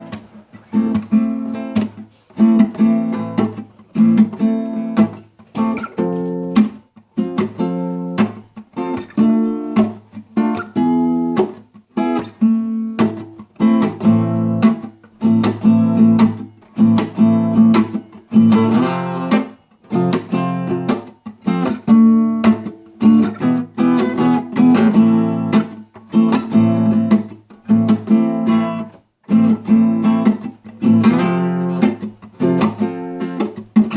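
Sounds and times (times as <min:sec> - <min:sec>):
acoustic guitar strumming: 0:00.0 - 0:33.9.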